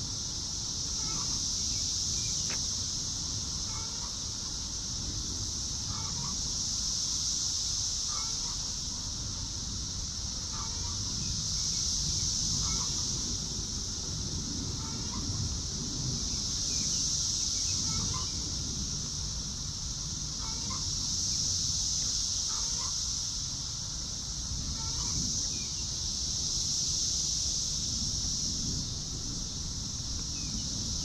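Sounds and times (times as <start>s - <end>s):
high-pitched hiss: 0.0s - 31.0s.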